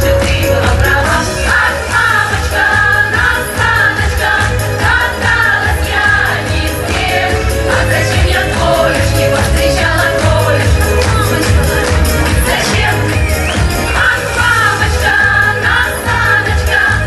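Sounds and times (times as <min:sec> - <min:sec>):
backing track with pulsing bass: 0:00.0 - 0:17.0
group of people singing: 0:00.0 - 0:17.0.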